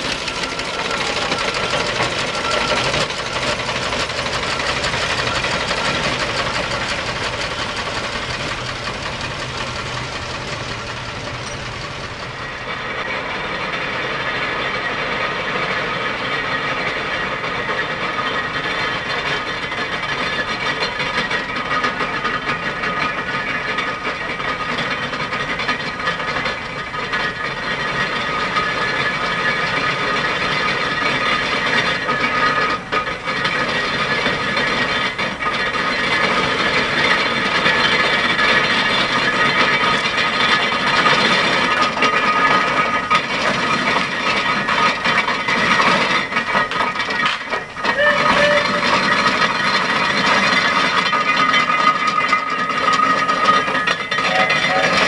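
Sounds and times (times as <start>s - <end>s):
miniature steam roller ticking: 0.0s - 55.0s
steam traction engine running: 0.0s - 55.0s.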